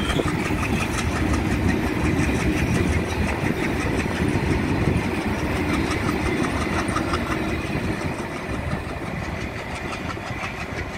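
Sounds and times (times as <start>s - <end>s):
steel wheels rumbling on rail: 0.0s - 10.9s.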